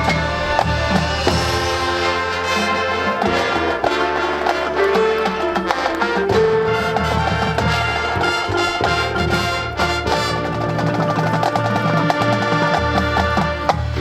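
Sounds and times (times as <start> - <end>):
marching band brass: 0.0 - 14.0
quick repeated drum notes: 0.0 - 14.0.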